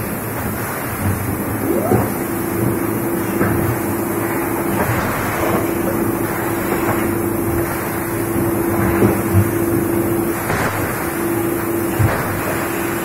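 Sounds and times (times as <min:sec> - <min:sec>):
moulding machine humming: 0:00.0 - 0:13.0.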